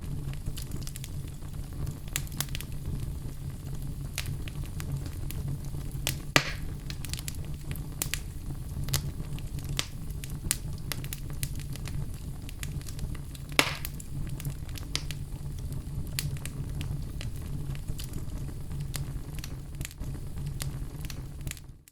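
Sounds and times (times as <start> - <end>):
loud fire pops: 0.0 - 21.9
wood fire crackling: 0.0 - 21.9.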